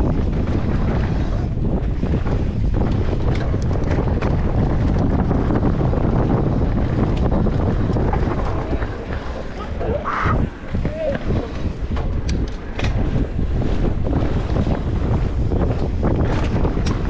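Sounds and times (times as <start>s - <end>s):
bike clicks and rattles: 0.0s - 10.0s, 10.8s - 17.0s
tyres rumbling over dirt: 0.0s - 17.0s
wind buffeting microphone: 0.0s - 17.0s.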